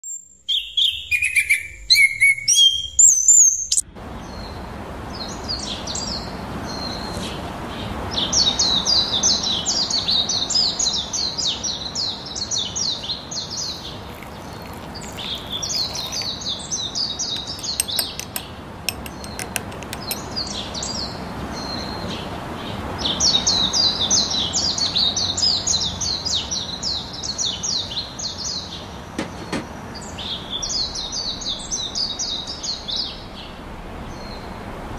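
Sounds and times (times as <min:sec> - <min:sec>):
small birds chirping: 0:00.0 - 0:34.6.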